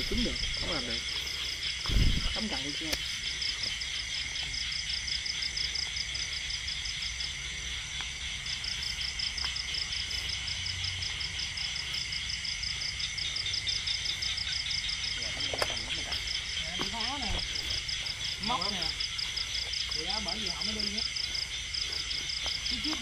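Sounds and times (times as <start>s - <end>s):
high-pitched insect trill: 0.0s - 23.0s
rapid pulsing insect call: 0.0s - 23.0s.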